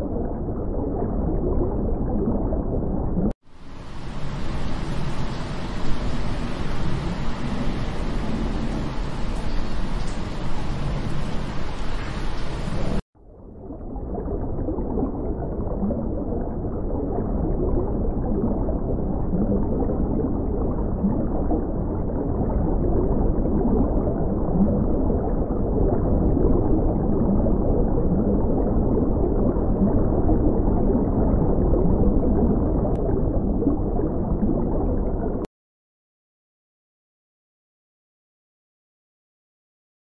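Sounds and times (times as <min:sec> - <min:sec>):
underwater bubbling rumble: 0:00.0 - 0:35.5.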